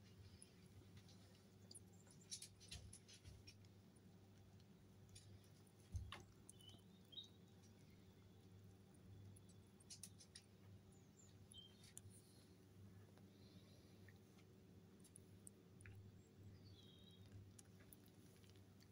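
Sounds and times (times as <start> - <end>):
rabbits chewing: 0.0 - 18.9.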